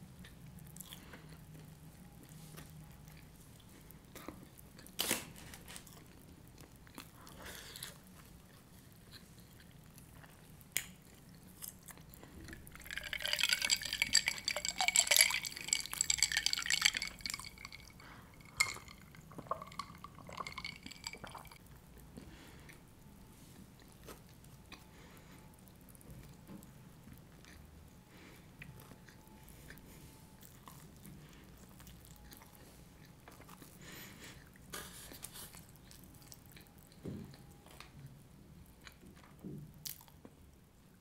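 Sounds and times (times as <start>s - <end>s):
chewing food: 0.2s - 40.4s.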